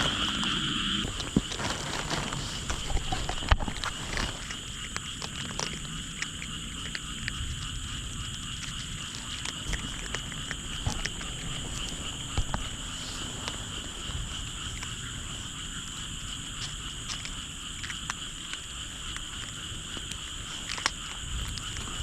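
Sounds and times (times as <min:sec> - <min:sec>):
chorus of frogs trilling: 0:00.0 - 0:22.0.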